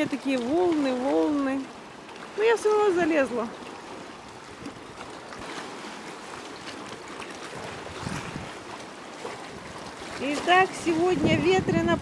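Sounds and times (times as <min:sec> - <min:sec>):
sea water splashing against rocks: 0:00.0 - 0:12.0.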